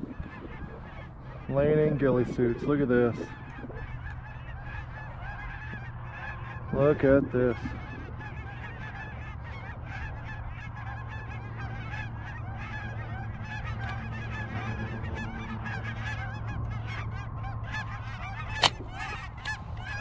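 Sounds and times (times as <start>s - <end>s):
flock of geese calling: 0.0s - 20.0s.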